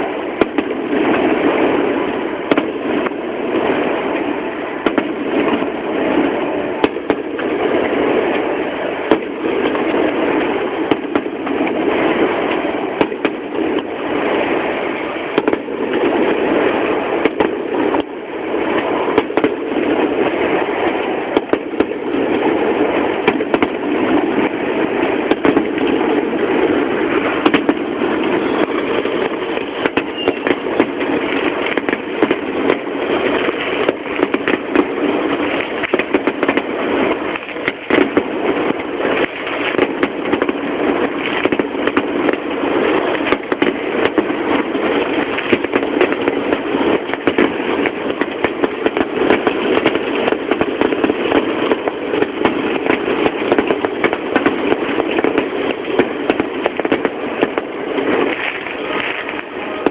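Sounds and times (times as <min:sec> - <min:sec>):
continuous rumbling: 0:00.0 - 0:59.9
fireworks bangs: 0:00.0 - 0:59.9.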